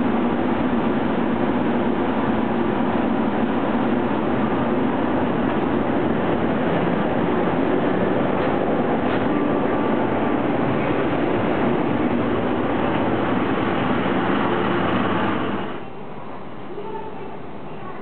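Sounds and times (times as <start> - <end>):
electric locomotive passing: 0.0 - 17.9.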